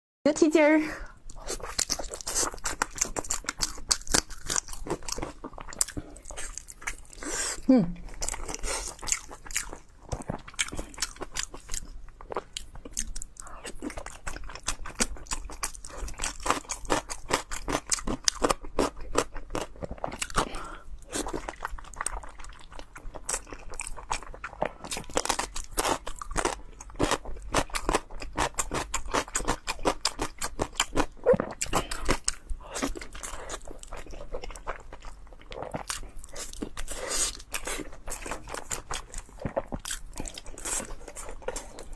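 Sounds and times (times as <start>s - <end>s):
chewing with crisp crunching: 1.0s - 41.9s.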